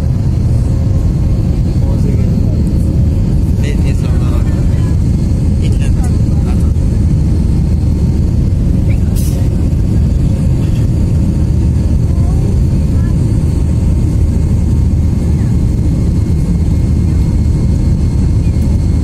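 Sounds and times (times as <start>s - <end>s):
airliner engines roaring in cabin: 0.0s - 19.0s.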